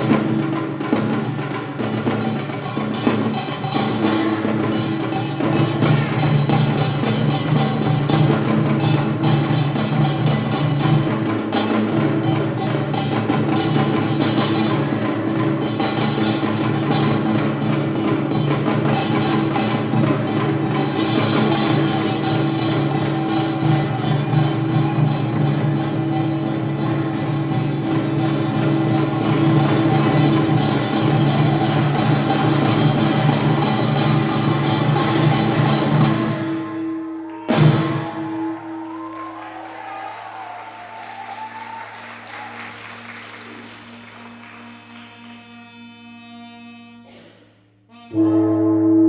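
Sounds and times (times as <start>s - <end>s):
drums and gongs playing fast rhythm: 0.0s - 44.2s.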